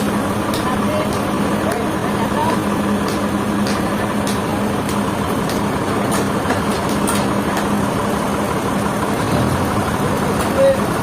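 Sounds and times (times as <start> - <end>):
motor running with low hum: 0.0 - 11.0.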